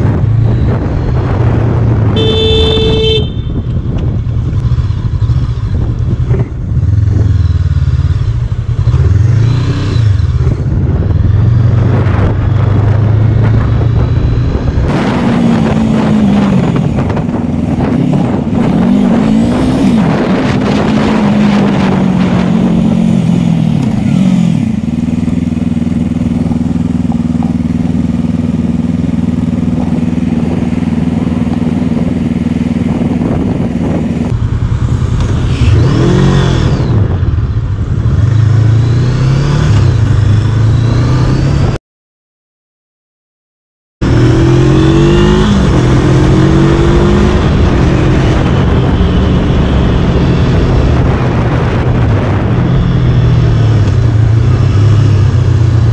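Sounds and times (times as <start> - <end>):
motorcycle engine: 0.0 - 41.8, 44.0 - 55.9.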